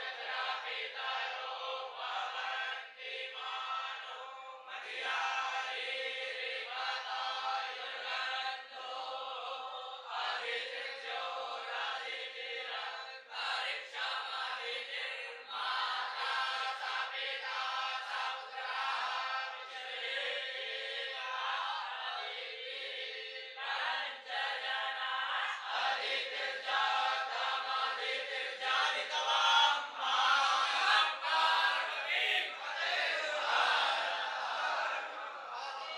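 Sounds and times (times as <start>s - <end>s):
children chanting in unison: 0.0s - 35.9s.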